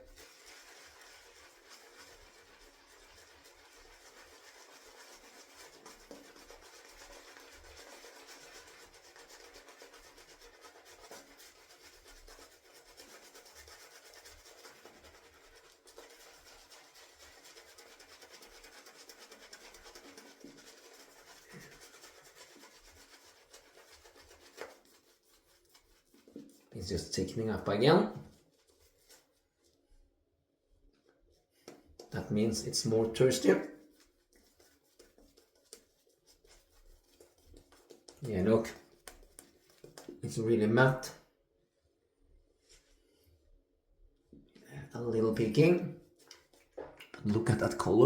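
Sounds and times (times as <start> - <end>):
shaving brush swishing lather: 0.0 - 29.8, 31.7 - 41.1, 45.2 - 48.0.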